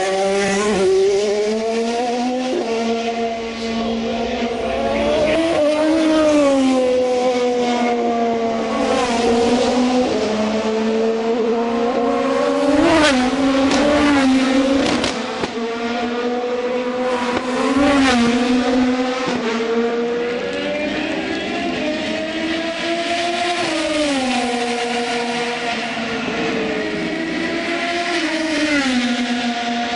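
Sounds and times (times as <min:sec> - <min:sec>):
race cars passing: 0:00.0 - 0:29.9.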